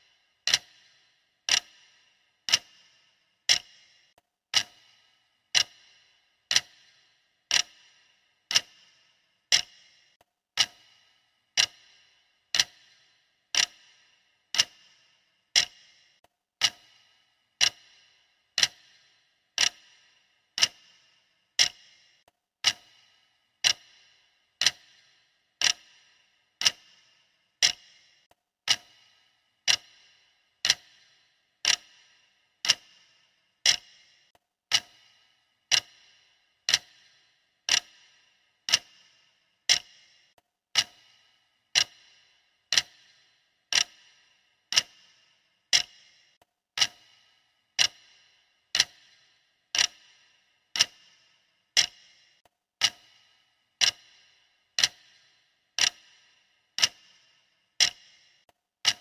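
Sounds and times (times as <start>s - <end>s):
clock ticking: 0.0s - 59.0s.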